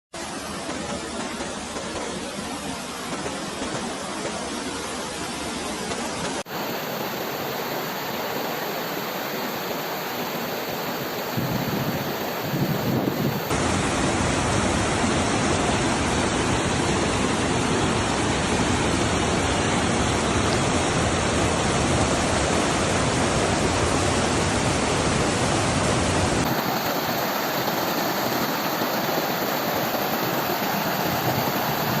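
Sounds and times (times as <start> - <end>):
water rushing over waterfall: 2.4 - 32.0.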